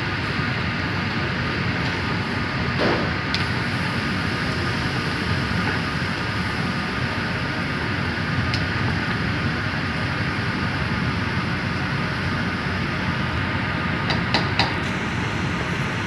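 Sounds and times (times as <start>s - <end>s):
stew boiling hard: 0.2s - 16.0s.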